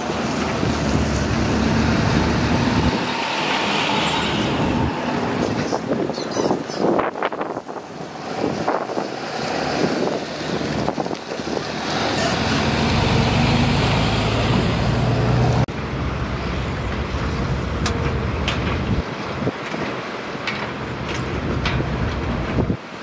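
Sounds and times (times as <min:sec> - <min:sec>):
heavy machine diesel engine: 0:00.0 - 0:06.1, 0:07.7 - 0:22.8.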